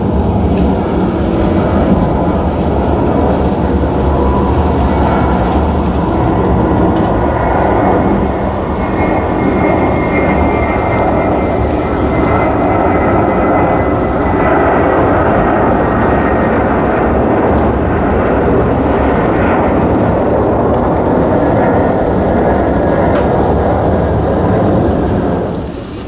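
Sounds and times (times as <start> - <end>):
faint high whine: 0.0 - 26.0
jet engines roaring: 0.0 - 26.0.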